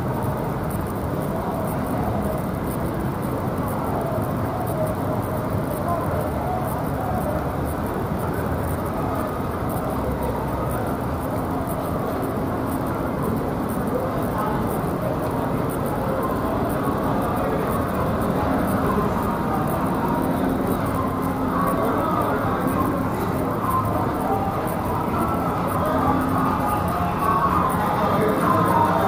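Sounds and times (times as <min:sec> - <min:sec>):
distant traffic hum: 0:00.0 - 0:29.0
faint indistinct voices: 0:00.0 - 0:29.0.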